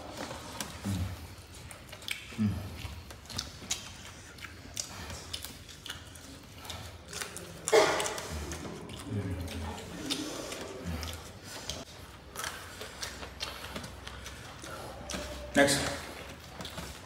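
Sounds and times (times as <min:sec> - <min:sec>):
chewing and lip-smacking: 0:00.0 - 0:17.0.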